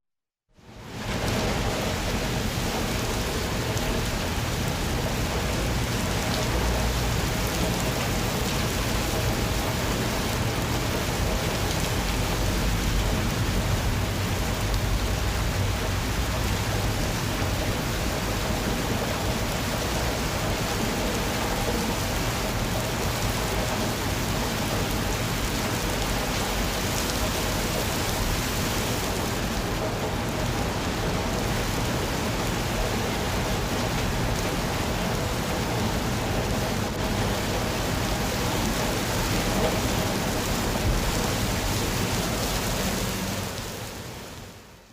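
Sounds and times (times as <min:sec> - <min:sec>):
steady rain falling: 0:00.5 - 0:44.9.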